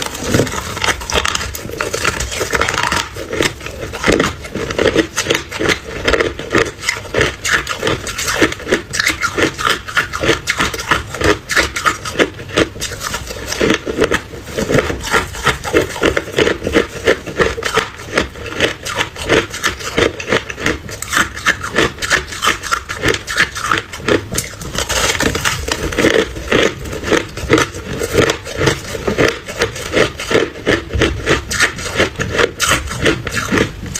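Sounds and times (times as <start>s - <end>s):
person crunching ice: 0.0s - 33.9s.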